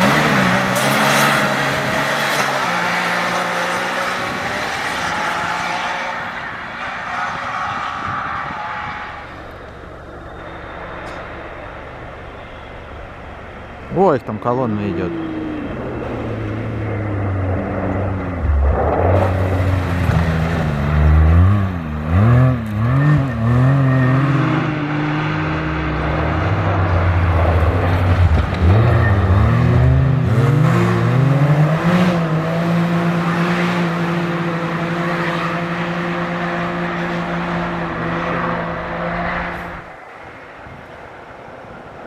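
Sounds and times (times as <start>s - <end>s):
engines revving: 0.0s - 40.3s
vehicles driving past: 0.0s - 42.0s.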